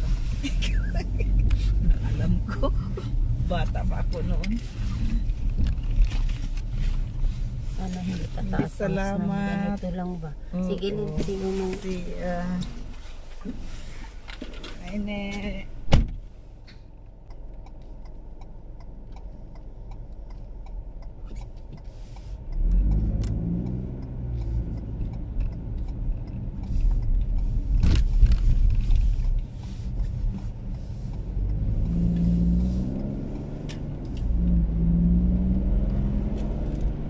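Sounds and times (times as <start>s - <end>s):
car engine accelerating: 0.0s - 14.2s, 16.5s - 37.0s
road rumble: 0.0s - 37.0s.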